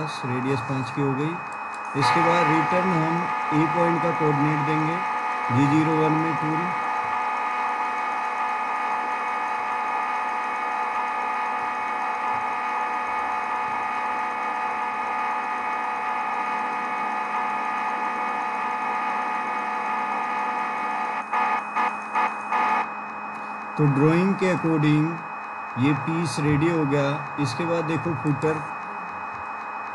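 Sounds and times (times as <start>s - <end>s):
simulated machining hum: 0.0s - 29.9s.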